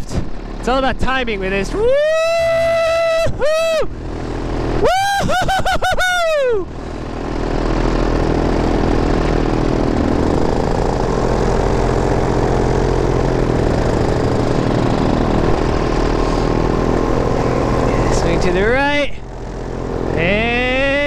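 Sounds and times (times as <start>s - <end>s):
paramotor engine and propeller: 0.0s - 21.0s.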